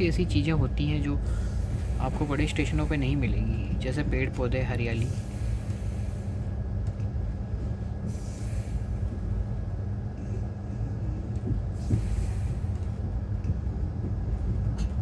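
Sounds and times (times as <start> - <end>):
train coach and wheels rumbling: 0.0 - 15.0.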